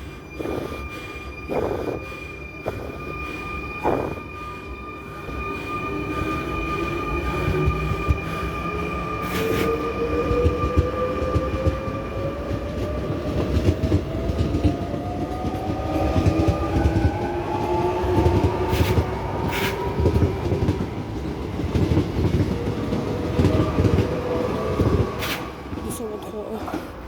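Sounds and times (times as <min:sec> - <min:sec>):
train wheel rumble: 0:00.0 - 0:27.0.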